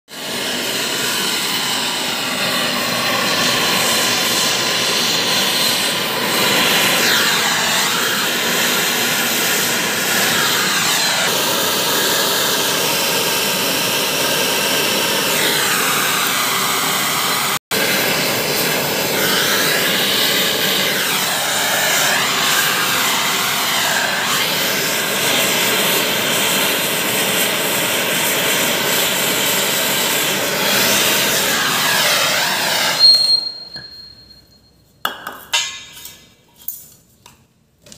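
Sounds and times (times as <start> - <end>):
gas torch flame hissing: 0.1 - 33.7.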